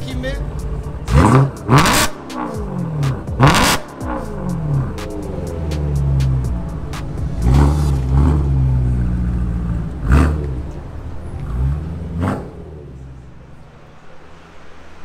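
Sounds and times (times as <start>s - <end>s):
car engine revving: 0.0s - 15.0s
sharp exhaust crack: 0.0s - 15.0s.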